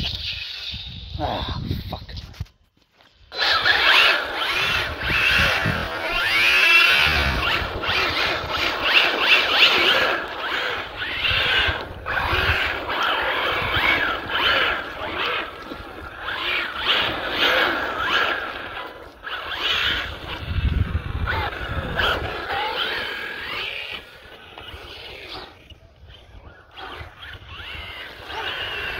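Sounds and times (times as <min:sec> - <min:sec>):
rc car motor whining: 0:03.2 - 0:28.9.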